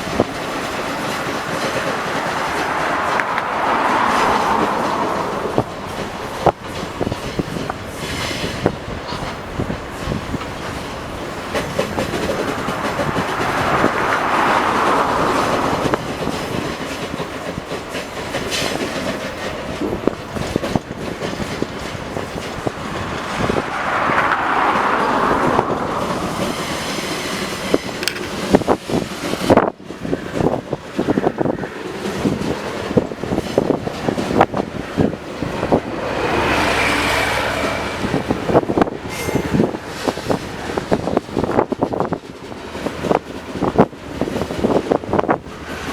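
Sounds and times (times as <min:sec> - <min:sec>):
rushing noise of passing train: 0:00.0 - 0:45.9
train wheels clacking over rail joints: 0:00.0 - 0:45.9.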